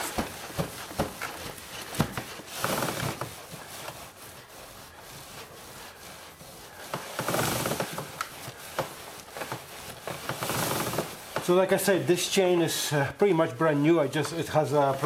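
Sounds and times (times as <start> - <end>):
rag rubbing a chain: 0.0 - 12.8.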